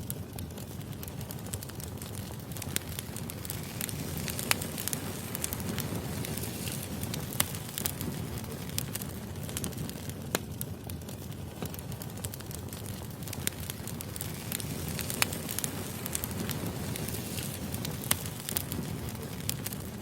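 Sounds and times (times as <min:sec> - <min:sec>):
fire crackling and popping: 0:00.0 - 0:20.0
wood fire rumbling: 0:00.0 - 0:20.0.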